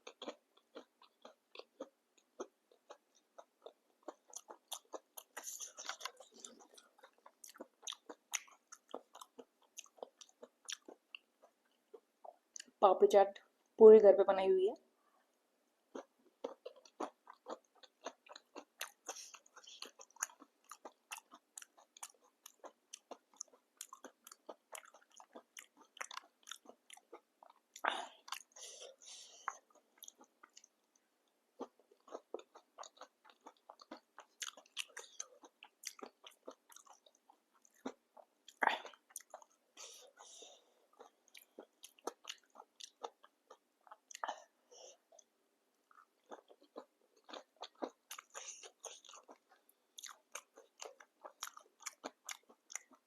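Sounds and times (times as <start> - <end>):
crunching and chewing crisp food: 0.0 - 12.8, 15.8 - 53.0.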